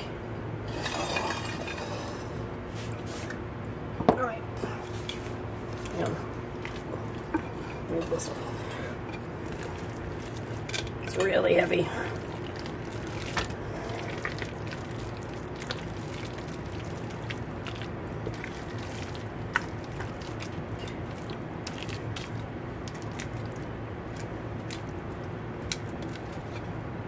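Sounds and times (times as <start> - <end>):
steady low hum: 0.0 - 27.0
soft squishing of salad: 4.7 - 27.0.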